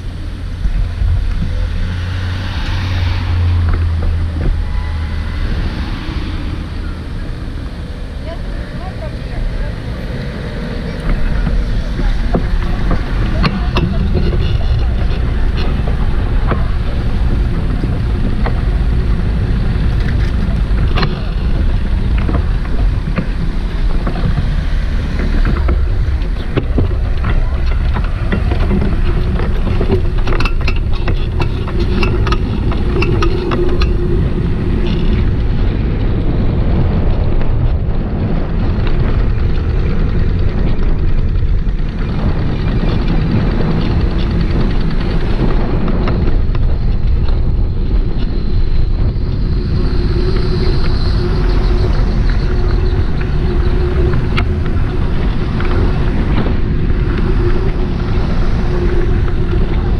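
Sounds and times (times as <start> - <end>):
steady low hum: 0.0 - 59.9
wind rushing over microphone: 0.0 - 59.9
rapid rattling clicks: 10.3 - 36.4, 37.1 - 59.9.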